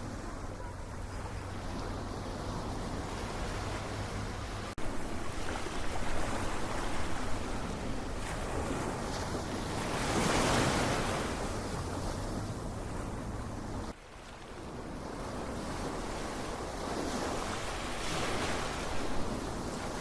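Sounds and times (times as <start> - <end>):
ocean waves washing in: 0.0 - 20.0.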